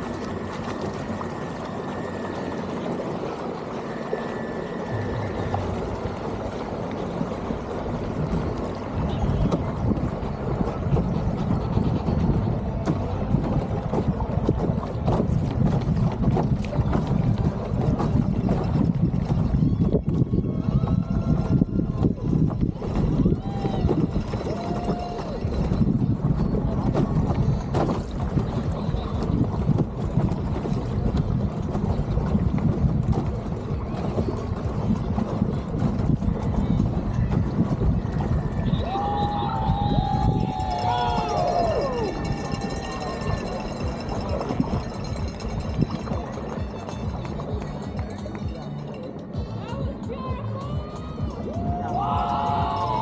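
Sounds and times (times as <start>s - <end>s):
water splashes: 0.0s - 53.0s
wind buffeting microphone: 0.0s - 53.0s.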